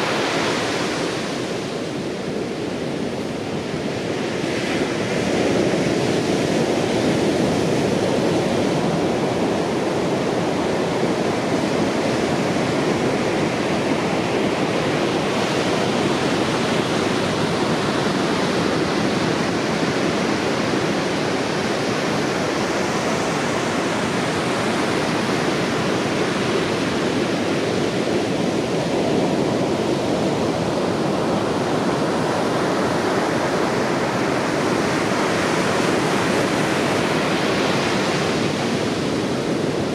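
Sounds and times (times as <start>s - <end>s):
heavy surf roaring: 0.0s - 39.9s.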